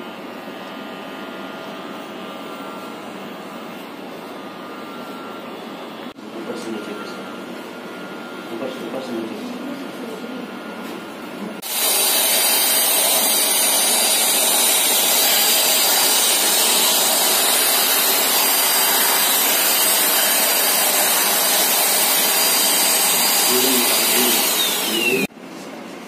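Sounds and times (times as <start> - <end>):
vacuum cleaner running: 0.0 - 25.3.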